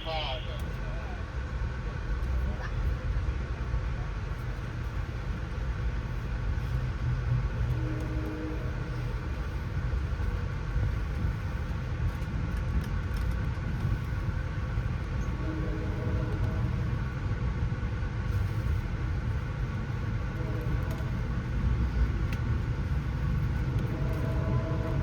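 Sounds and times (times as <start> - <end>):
train rumbling on track: 0.0 - 25.0.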